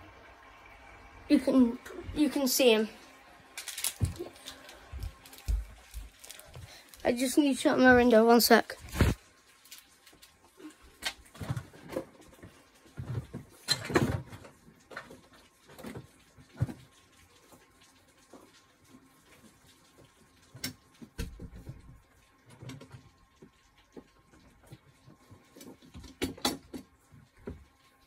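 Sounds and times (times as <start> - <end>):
rainwater dripping: 0.0 - 28.0.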